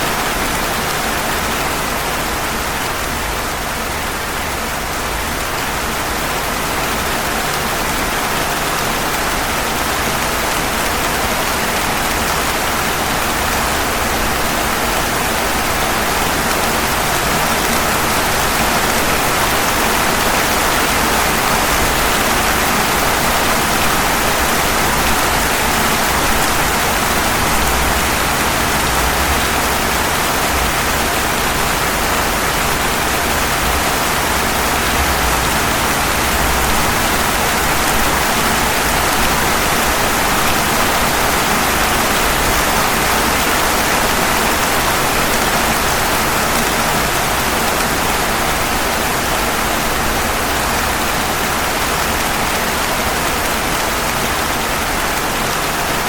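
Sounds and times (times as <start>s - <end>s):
rain falling on pavement: 0.0s - 56.0s.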